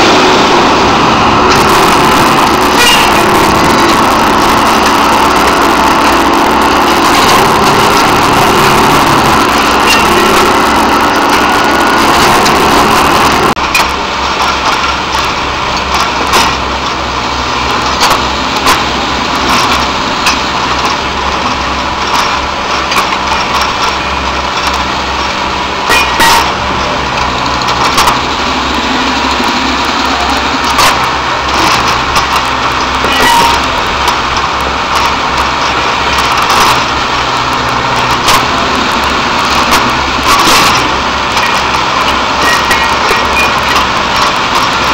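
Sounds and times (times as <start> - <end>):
machine engine running: 0.0 - 44.9.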